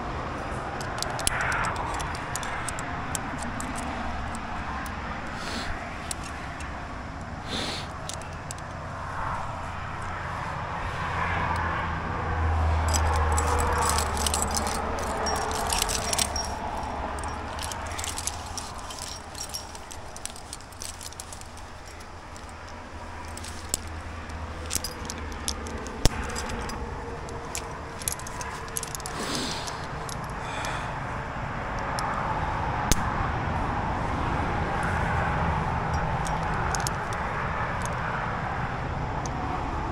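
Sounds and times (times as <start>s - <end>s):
low steady rumble: 0.0s - 39.9s
metal carabiners clinking: 0.7s - 10.2s, 12.6s - 32.2s, 34.8s - 39.4s.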